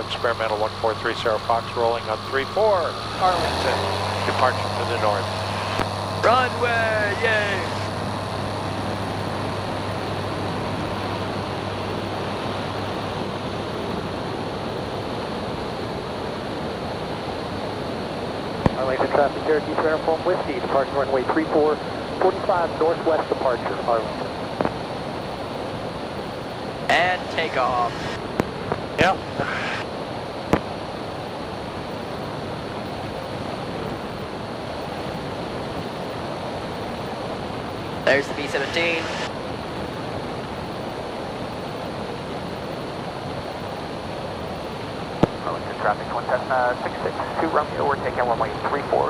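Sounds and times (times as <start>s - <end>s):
airplane engine and propeller drone: 0.0s - 49.0s
constant low hum: 0.0s - 49.0s.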